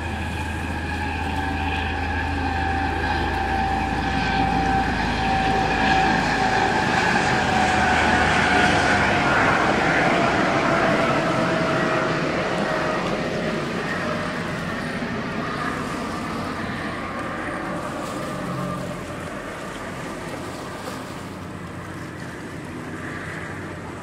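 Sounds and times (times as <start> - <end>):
hull wash on water: 0.0 - 24.0
speedboat engine whine: 0.0 - 24.0.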